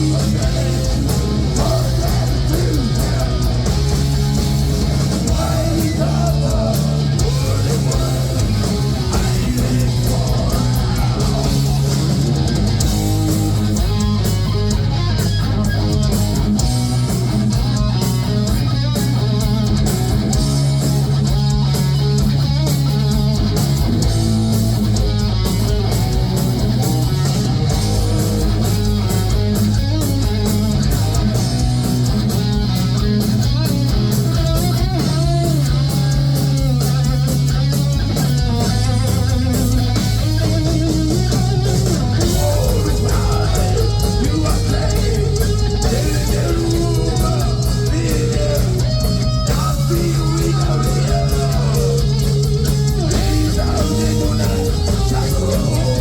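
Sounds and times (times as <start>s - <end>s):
electric guitar: 0.0s - 56.0s
heavy metal band playing live: 0.0s - 56.0s.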